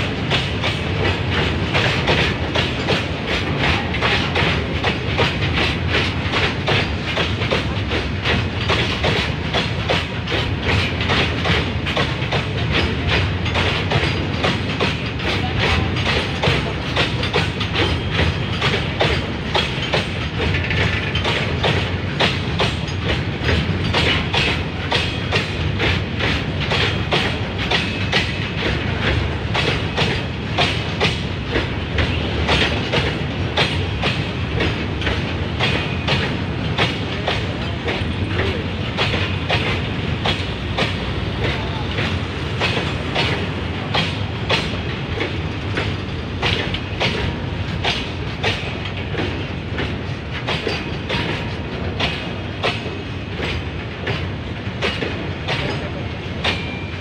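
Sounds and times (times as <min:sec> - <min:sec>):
train rumble: 0:00.0 - 0:57.0
wheels clacking over rail joints: 0:00.0 - 0:57.0.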